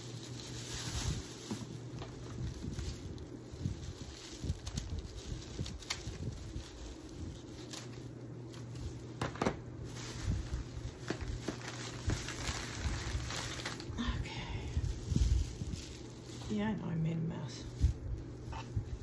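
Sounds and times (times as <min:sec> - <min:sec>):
dry fibres rustling and crinkling: 0:00.0 - 0:19.0
low steady hum: 0:00.0 - 0:19.0.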